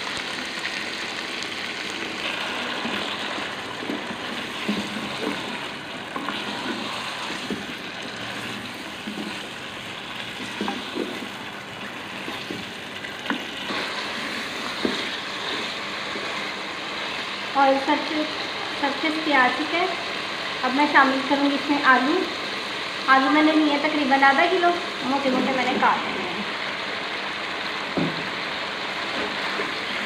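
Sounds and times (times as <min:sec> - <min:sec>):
food sizzling in oil: 0:00.0 - 0:30.0.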